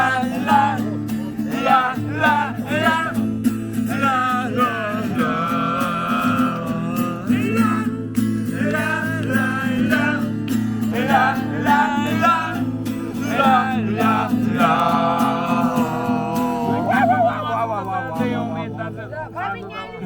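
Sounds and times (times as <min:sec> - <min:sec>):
person singing wordless melody: 0:00.0 - 0:18.9
acoustic guitar strummed: 0:00.0 - 0:20.0.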